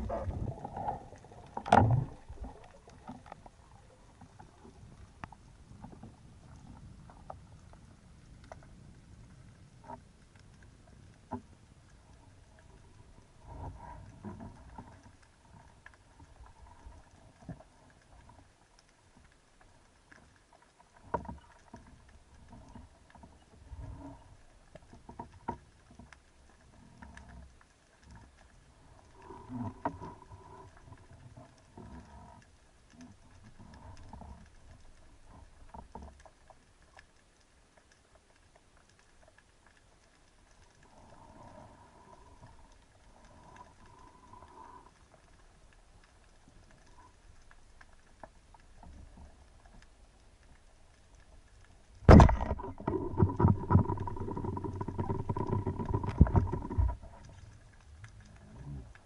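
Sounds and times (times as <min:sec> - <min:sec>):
low rumbling of water: 0:00.0 - 0:59.0
underwater clicks and crackles: 0:00.0 - 0:59.0.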